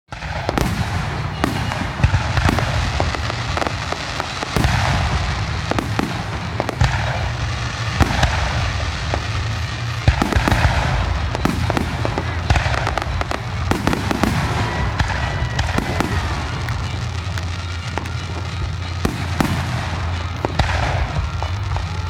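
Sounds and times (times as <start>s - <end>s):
fireworks shells bursting: 0.1s - 22.0s
constant rumble: 0.2s - 22.0s.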